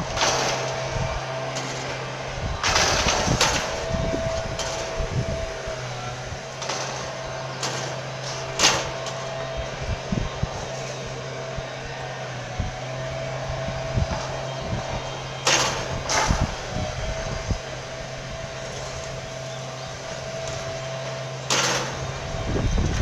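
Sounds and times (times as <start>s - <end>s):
steady low hum: 0.0s - 23.0s
wind buffeting microphone: 0.0s - 23.0s.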